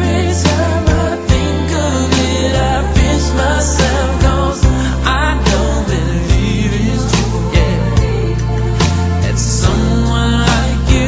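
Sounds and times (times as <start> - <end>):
song with bass and regular beat: 0.0 - 11.0.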